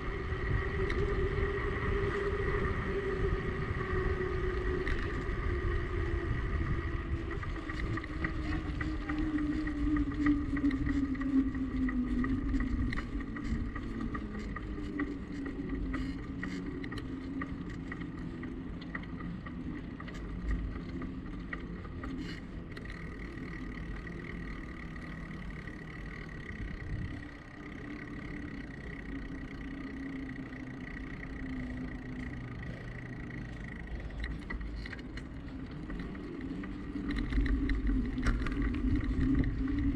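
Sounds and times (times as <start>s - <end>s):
steady hum: 0.0s - 39.9s
tyre and road noise: 0.0s - 39.9s
wind rumble on microphone: 0.0s - 39.9s
faint clicks: 7.0s - 39.9s.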